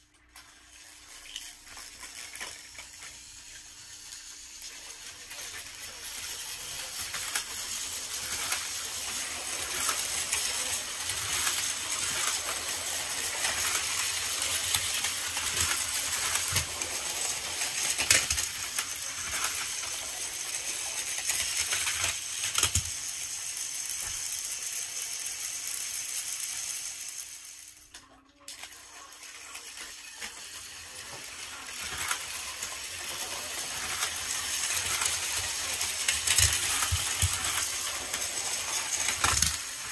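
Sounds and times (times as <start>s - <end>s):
toy trains whirring on plastic track: 0.0s - 39.9s.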